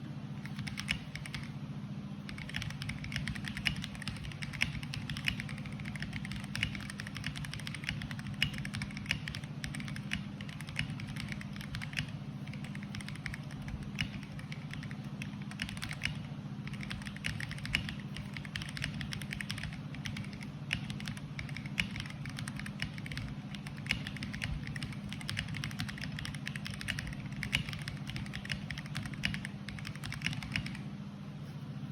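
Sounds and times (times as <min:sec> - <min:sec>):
keyboard keystroke clicks: 0:00.4 - 0:01.6, 0:02.2 - 0:30.9.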